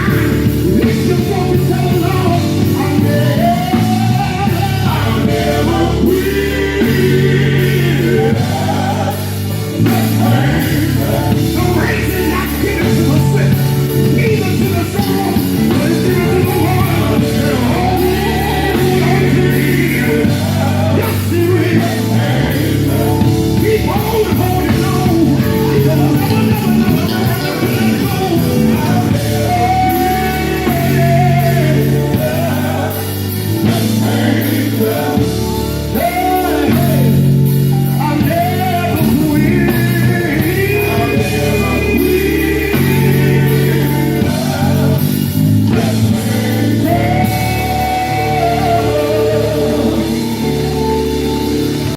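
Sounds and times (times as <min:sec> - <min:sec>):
bass line: 0:00.0 - 0:51.9
group singing: 0:00.0 - 0:51.9
guitar: 0:00.0 - 0:51.9.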